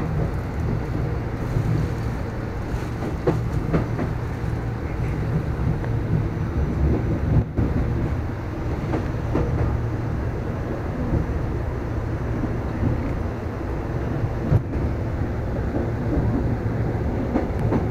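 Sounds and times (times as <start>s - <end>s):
train rumble from inside carriage: 0.0s - 17.9s.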